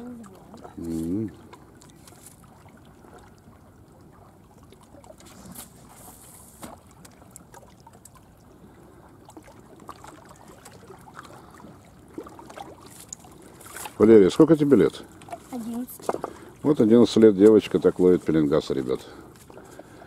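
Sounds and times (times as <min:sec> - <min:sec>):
water lapping at shoreline: 0:00.0 - 0:20.0.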